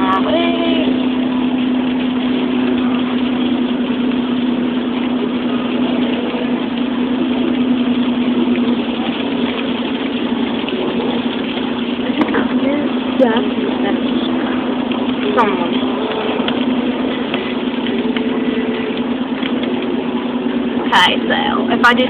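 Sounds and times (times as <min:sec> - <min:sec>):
car engine drone: 0:00.0 - 0:22.0
constant low hum: 0:00.0 - 0:22.0
road noise: 0:00.0 - 0:22.0.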